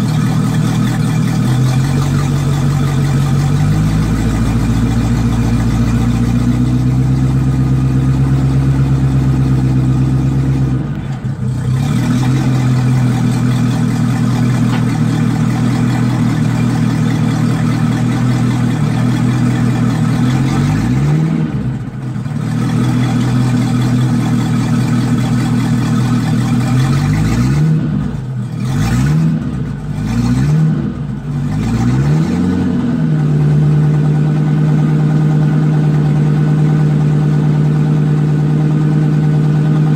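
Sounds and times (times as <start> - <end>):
boat engine revving: 0.0 - 39.9.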